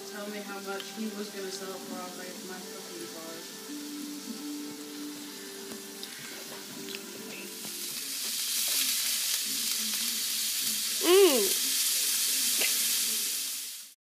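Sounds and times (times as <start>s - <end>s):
meat sizzling in skillet: 0.0s - 14.0s.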